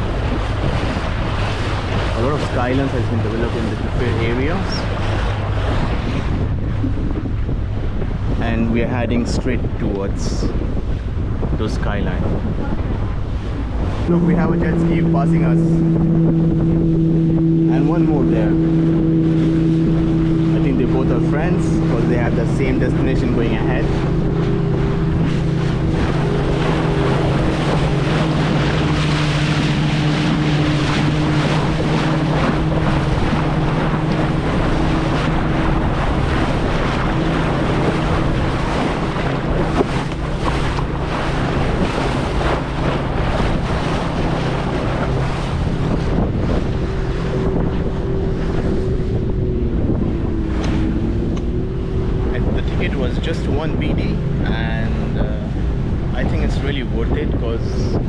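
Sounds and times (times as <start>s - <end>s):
motorboat engine droning: 0.0s - 58.0s
water splashing around hull: 0.0s - 58.0s
wind on microphone: 0.0s - 58.0s.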